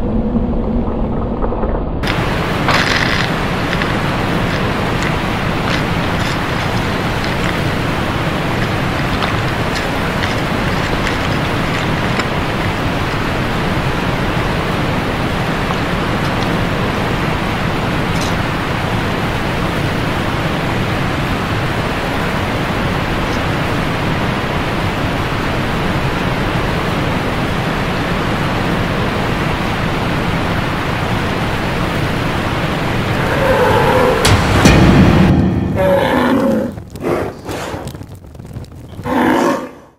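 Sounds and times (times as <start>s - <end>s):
waterfall rushing: 2.0s - 34.8s.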